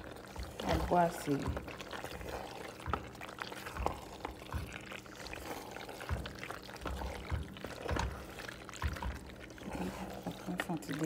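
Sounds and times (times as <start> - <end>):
wooden spoon stirring thick sauce: 0.0 - 11.0.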